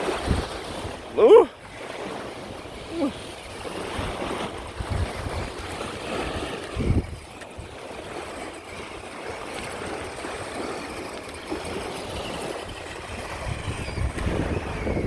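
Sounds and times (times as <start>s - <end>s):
flowing gurgling water: 0.0s - 15.0s.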